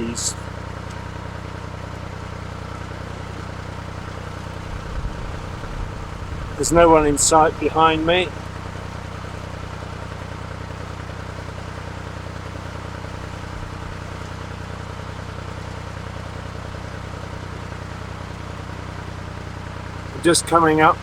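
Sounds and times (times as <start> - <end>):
diesel boat engine running: 0.0 - 21.0.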